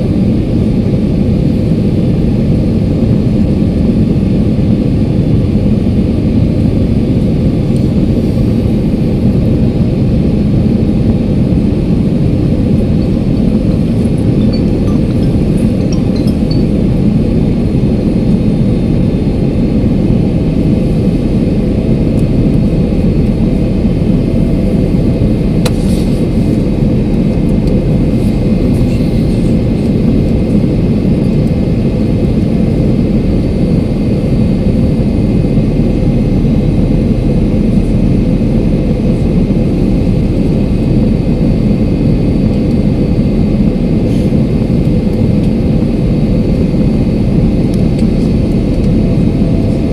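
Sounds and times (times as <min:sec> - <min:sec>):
jet airliner cabin noise: 0:00.0 - 0:49.9.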